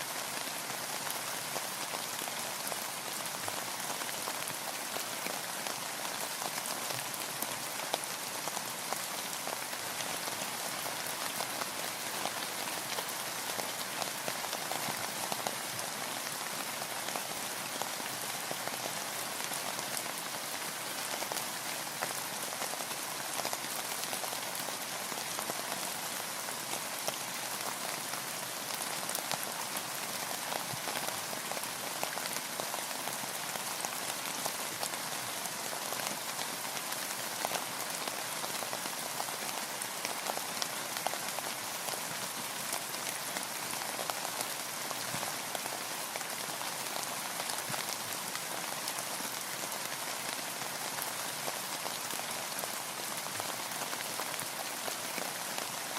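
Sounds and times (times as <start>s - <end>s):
rain on a boat and water: 0.0s - 55.9s.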